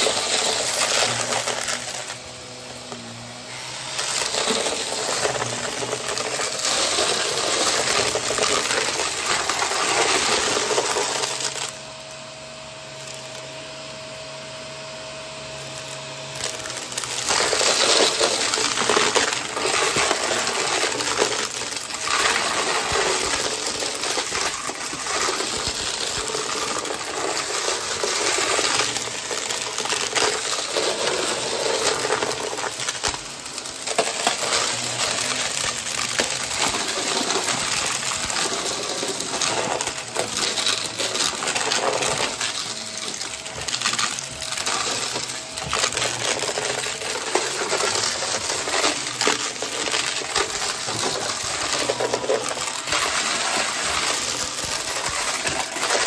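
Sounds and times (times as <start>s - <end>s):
small hard objects clicking and rattling: 0.0s - 2.4s, 3.6s - 11.8s, 15.7s - 56.0s.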